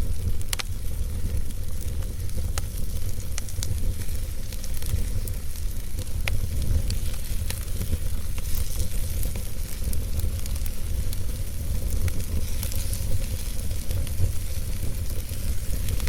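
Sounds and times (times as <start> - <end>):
fire crackling and popping: 0.0 - 16.0
fire rumbling and hissing: 0.0 - 16.0.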